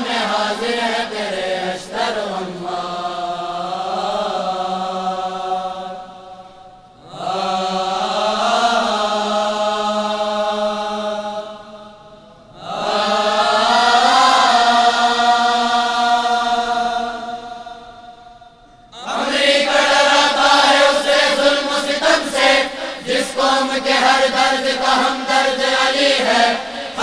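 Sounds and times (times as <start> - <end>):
choir singing in unison: 0.0 - 27.0.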